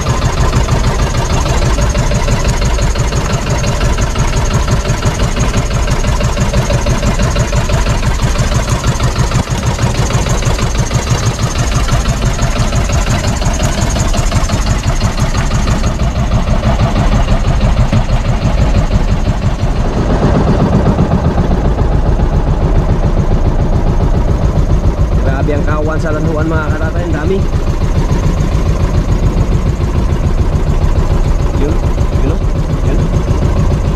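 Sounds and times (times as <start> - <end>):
boat engine low rumble: 0.0 - 33.9.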